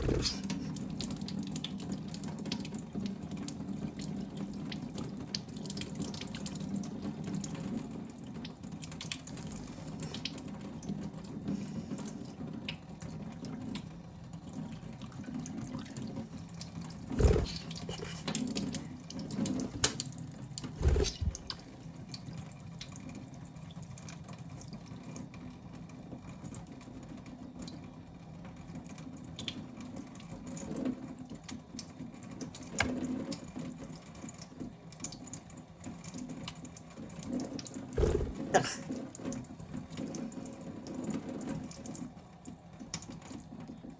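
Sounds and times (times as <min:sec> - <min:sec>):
water running from a tap: 0:00.0 - 0:43.9.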